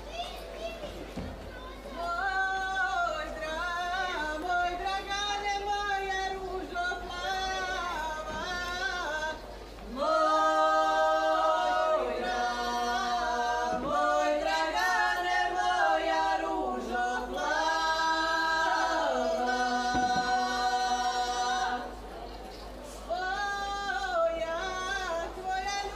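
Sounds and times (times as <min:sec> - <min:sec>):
women singing unaccompanied: 0:02.0 - 0:22.1, 0:23.0 - 0:25.9.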